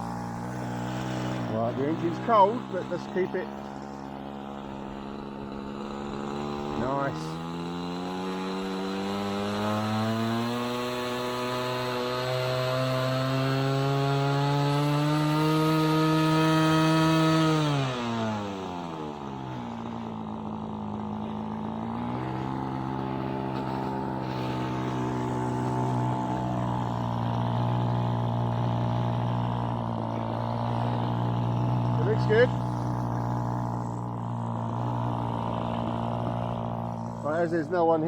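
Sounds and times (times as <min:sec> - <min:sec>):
model plane engine running: 0:00.0 - 0:38.0.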